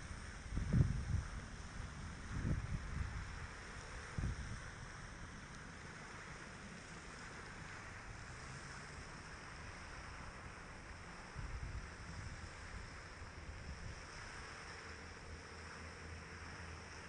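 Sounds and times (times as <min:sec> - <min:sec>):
steady hiss: 0:00.0 - 0:17.0
wind rumble on microphone: 0:00.0 - 0:17.0.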